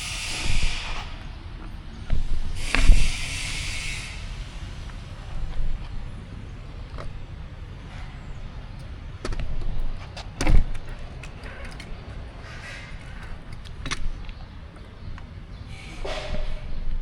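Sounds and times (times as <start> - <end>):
bicycle rumble: 0.0 - 17.0.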